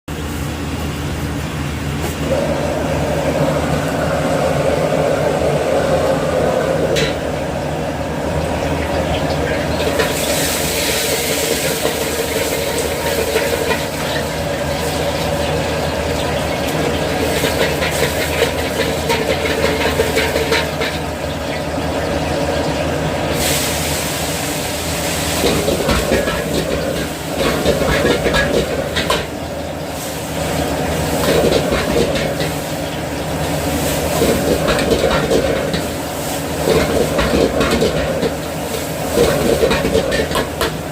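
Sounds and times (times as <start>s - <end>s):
exhaust fan running: 0.0s - 40.9s
gas wok burner roaring: 0.1s - 40.9s.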